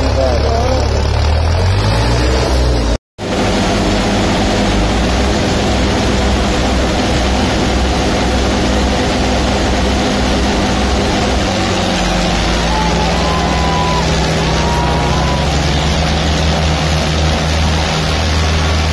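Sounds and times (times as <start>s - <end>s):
tractor engines under heavy load: 0.0s - 18.9s.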